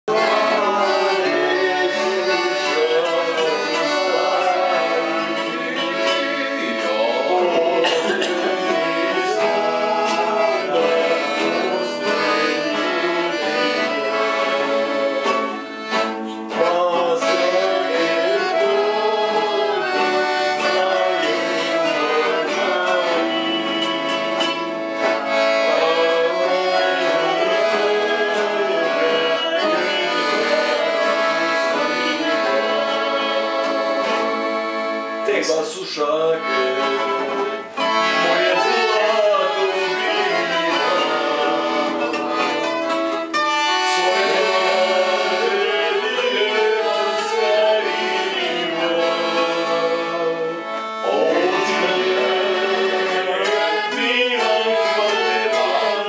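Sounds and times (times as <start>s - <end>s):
accordion: 0.0s - 56.0s
acoustic guitar: 0.1s - 56.0s
man singing: 0.1s - 56.0s.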